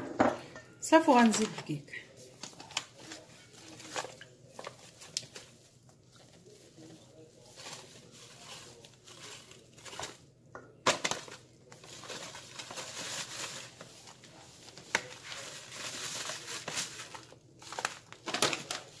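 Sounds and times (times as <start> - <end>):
paper bag rustling and crinkling: 1.0 - 19.0.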